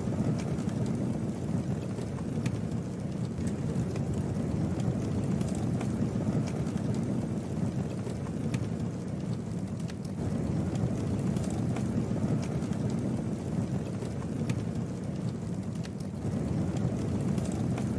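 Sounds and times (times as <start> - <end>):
burning wood crackling: 0.0 - 17.9
campfire low rushing: 0.0 - 17.9.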